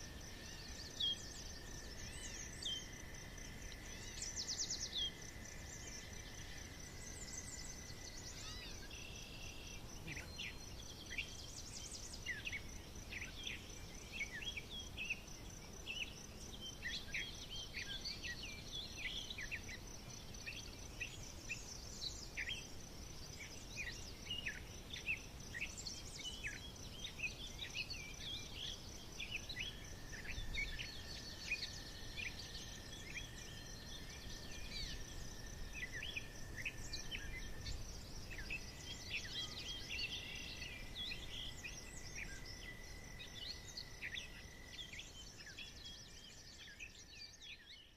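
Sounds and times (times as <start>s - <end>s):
high pulsing insect trill: 0.0s - 47.9s
small birds chirping and singing: 0.0s - 47.9s.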